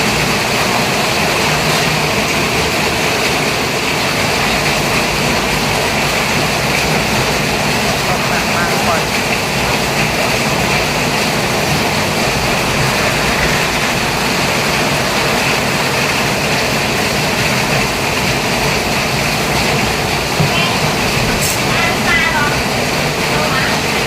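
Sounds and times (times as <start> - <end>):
moving vehicle rumble and hiss: 0.0 - 24.0.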